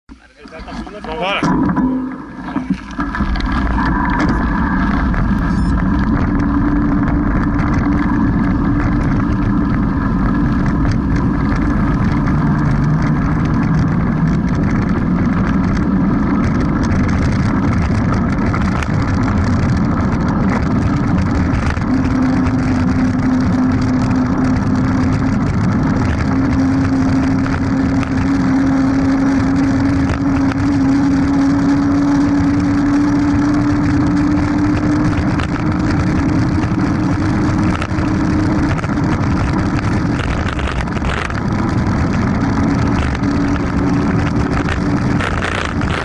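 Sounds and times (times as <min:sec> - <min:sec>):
tyres on loose dirt: 0:00.1 - 0:46.0
wind rumble on microphone: 0:00.1 - 0:46.0.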